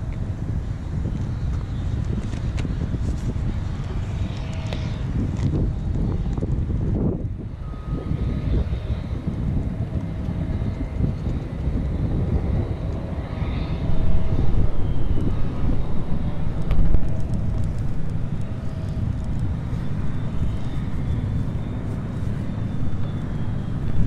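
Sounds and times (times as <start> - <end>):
dense low rumble: 0.0 - 24.0
faint hum tones: 0.0 - 24.0.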